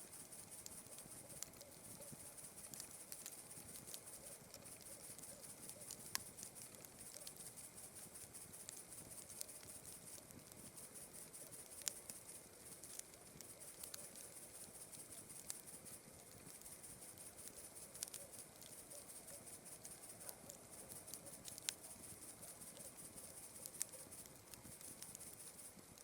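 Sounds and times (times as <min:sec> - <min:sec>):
night insects chirring: 0:00.0 - 0:26.0
campfire crackling and popping: 0:00.2 - 0:26.0.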